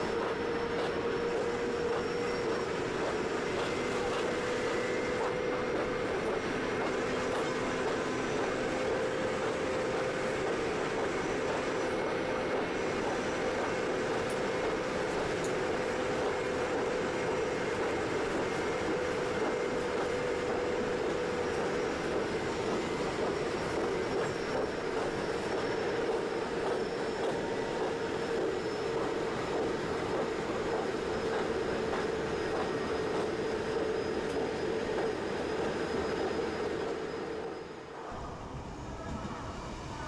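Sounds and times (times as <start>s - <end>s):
high-speed train rushing: 0.0s - 40.0s.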